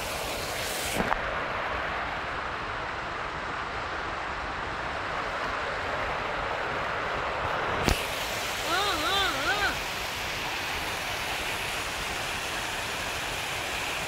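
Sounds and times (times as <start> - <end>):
water rushing down a cascade: 0.0 - 14.0.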